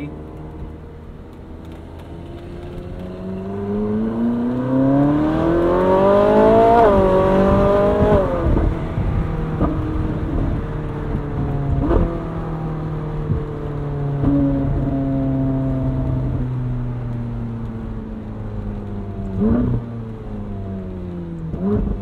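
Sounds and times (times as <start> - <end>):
sports car engine accelerating: 0.0 - 22.0.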